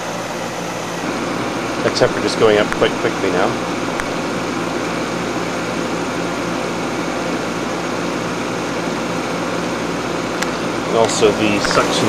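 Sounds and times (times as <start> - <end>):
compressor humming: 0.0 - 12.0
fan blowing: 0.0 - 12.0.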